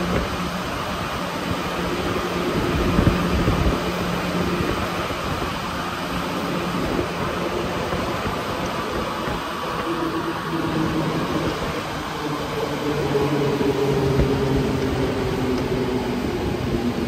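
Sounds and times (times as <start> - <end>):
metro train rumble: 0.0 - 17.0.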